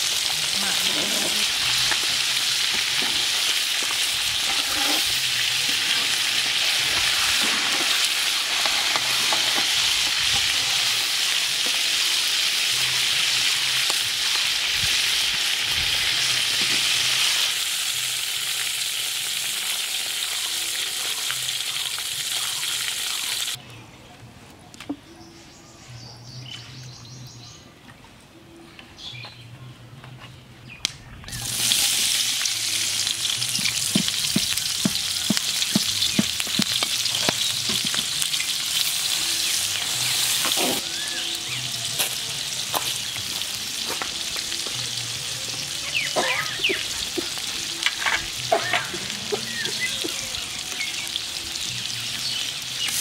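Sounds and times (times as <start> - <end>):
hot oil sizzling: 0.0 - 23.6, 31.3 - 53.0.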